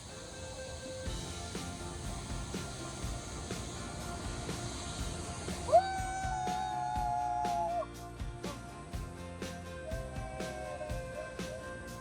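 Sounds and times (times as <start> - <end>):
music with held tones: 0.0 - 12.0
steady beat: 1.0 - 12.0.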